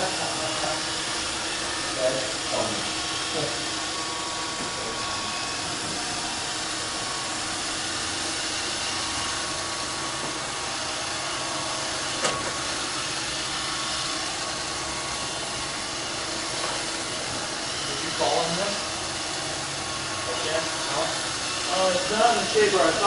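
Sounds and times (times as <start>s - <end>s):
robot vacuum motor whirring: 0.0s - 23.0s.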